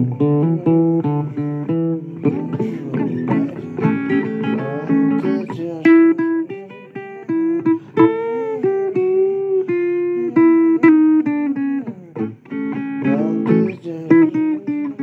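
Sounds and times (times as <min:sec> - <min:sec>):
blues guitar bending notes: 0:00.0 - 0:15.0.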